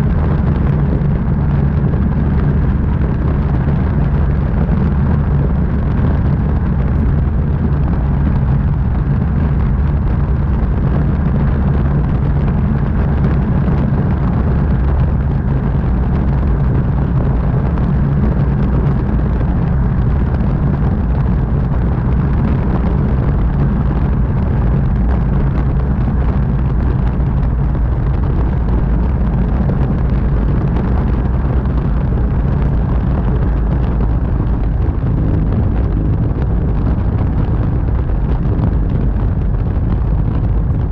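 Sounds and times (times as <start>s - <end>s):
aircraft engine and propeller droning: 0.0s - 39.0s
wind rush on microphone: 0.0s - 40.9s.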